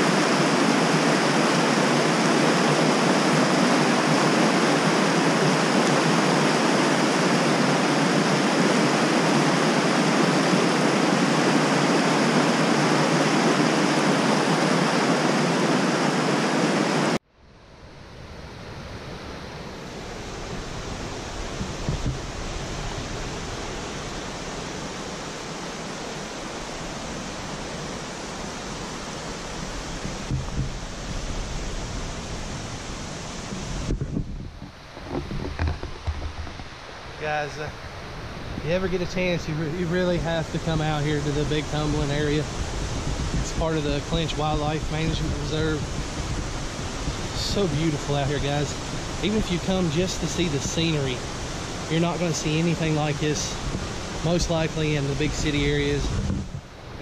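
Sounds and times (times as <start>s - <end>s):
creek water rushing: 0.0s - 17.2s, 18.5s - 57.0s.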